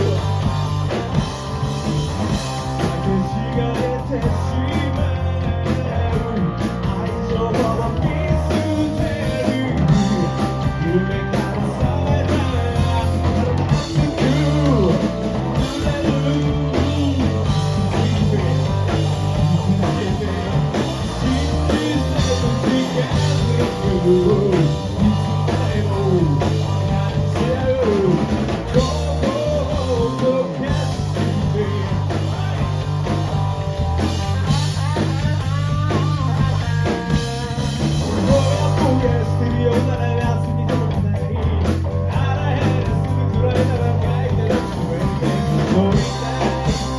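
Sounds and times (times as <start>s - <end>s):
live rock band playing: 0.0s - 46.9s.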